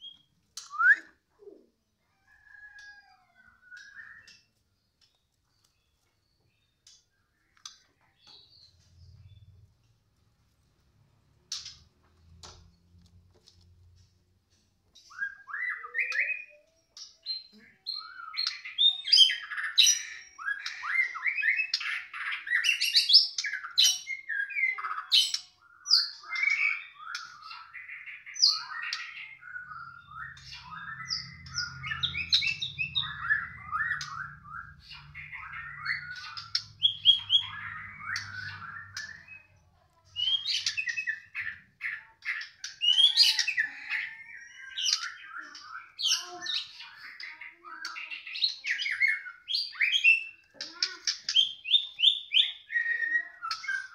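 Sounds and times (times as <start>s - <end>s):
songbird singing: 0.0s - 53.9s.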